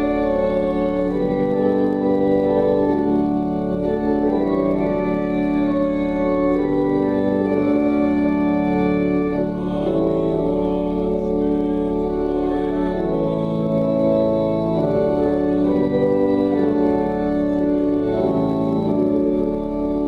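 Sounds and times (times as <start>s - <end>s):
church organ playing a hymn: 0.0s - 20.0s.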